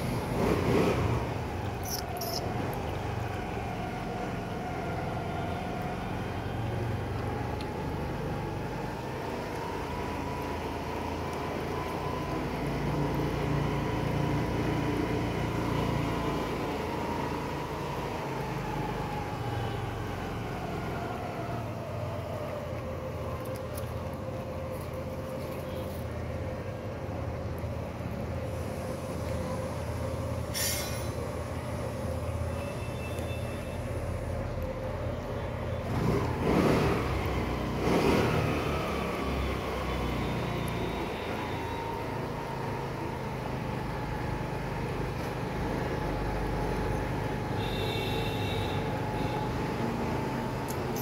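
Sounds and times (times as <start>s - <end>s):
vehicle low rumble: 0.0s - 51.0s.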